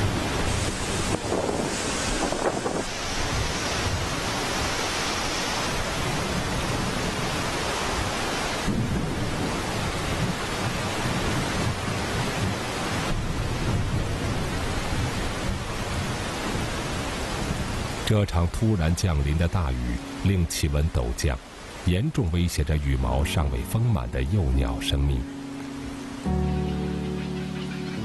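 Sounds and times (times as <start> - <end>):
pouring rain hiss: 0.0 - 28.0.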